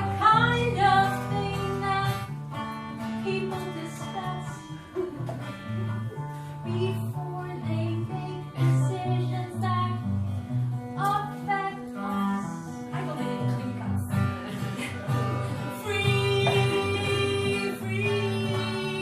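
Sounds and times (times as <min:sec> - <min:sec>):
guitar: 0:00.0 - 0:19.0
live band music: 0:01.2 - 0:19.0.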